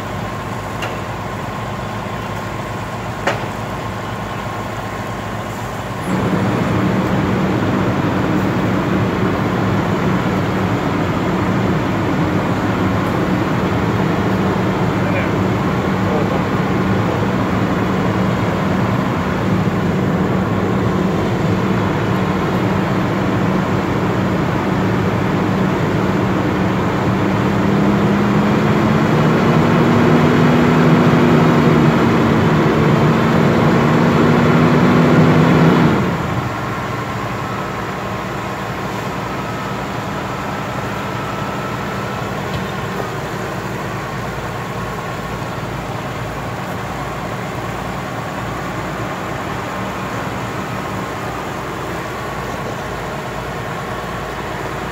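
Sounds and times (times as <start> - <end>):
fire truck engine running: 0.0 - 54.9.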